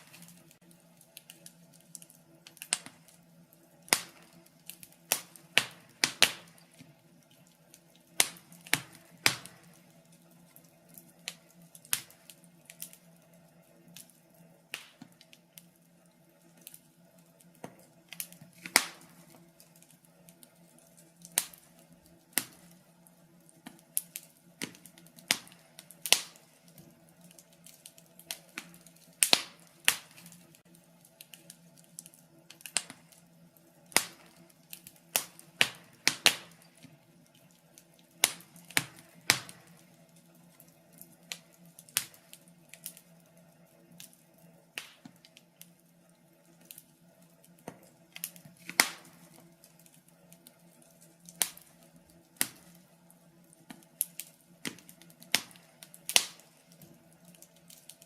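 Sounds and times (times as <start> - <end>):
faint steady hum: 0.0 - 58.0
wood fire crackling: 0.0 - 58.0.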